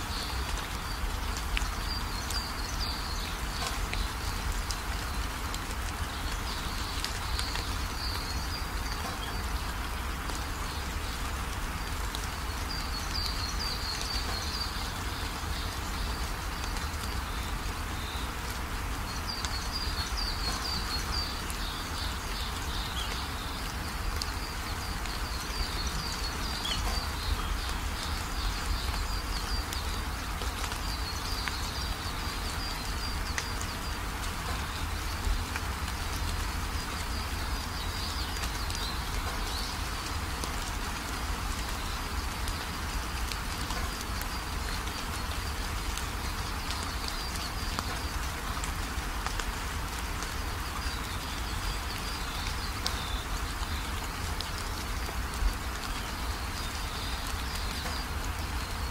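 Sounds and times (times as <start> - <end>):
background hiss: 0.0 - 58.9.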